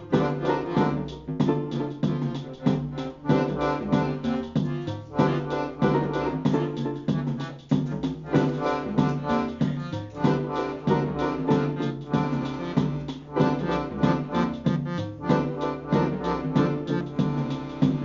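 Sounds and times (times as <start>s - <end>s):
accordions and keyboard playing: 0.0s - 18.0s
electronic beats: 0.0s - 18.0s.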